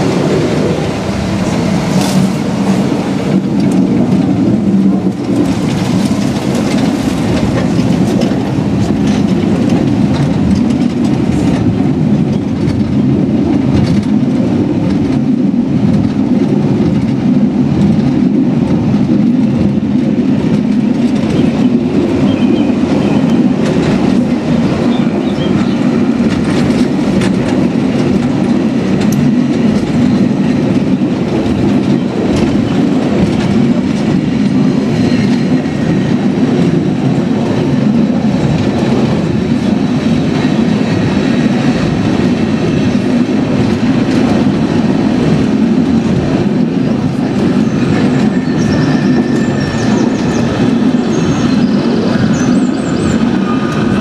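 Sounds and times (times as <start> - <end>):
wheel-on-rail rumble: 0.0 - 54.0.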